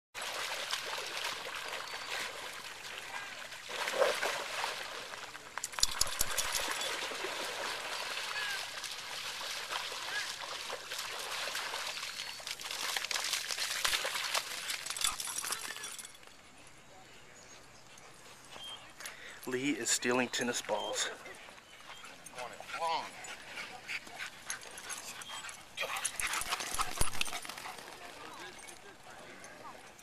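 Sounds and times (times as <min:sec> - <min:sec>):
dogs splashing in muddy water: 0:00.2 - 0:16.1, 0:20.7 - 0:30.0.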